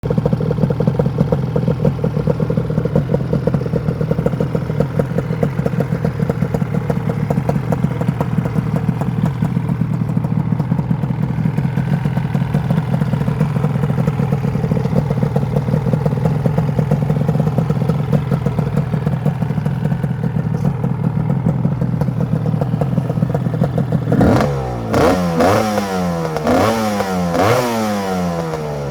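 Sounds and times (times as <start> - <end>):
scooter engine idling and revving: 0.0 - 28.9.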